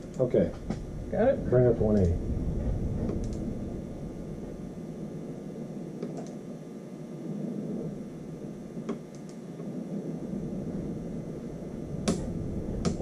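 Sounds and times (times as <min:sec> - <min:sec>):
steady room hum: 0:00.0 - 0:13.0.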